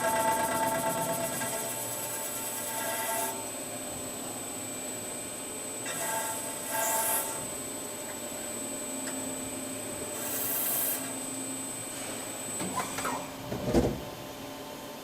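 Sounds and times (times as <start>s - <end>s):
machine high whine: 0.0s - 13.4s.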